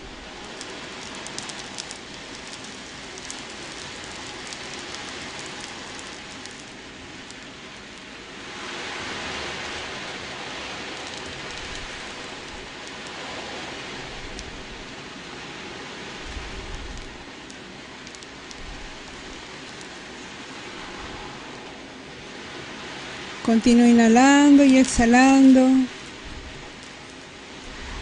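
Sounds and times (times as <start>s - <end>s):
ocean drum beads rolling: 0.0s - 21.6s, 23.8s - 28.0s.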